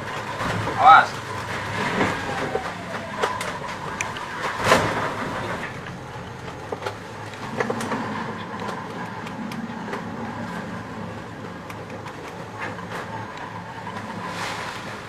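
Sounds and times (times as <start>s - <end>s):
wave breaking: 0.0s - 11.5s, 12.6s - 15.0s
boat engine drone: 0.0s - 15.0s
knocks and clatter from boat: 0.0s - 15.0s.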